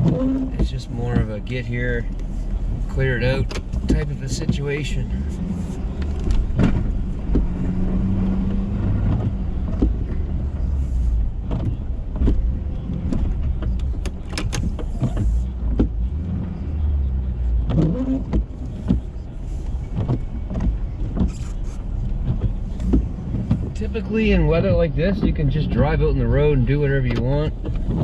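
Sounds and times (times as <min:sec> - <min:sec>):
plow knocks and clunks: 0:00.0 - 0:10.7, 0:11.3 - 0:16.4, 0:17.6 - 0:28.0
pickup engine running: 0:00.0 - 0:28.0.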